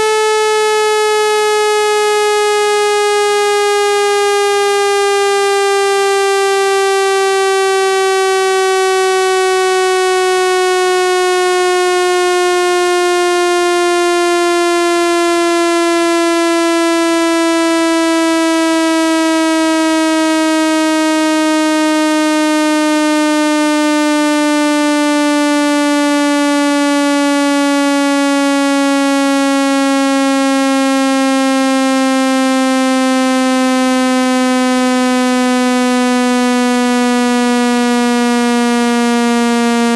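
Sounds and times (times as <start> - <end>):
buzzy synthesized tone sliding down: 0.0 - 39.9.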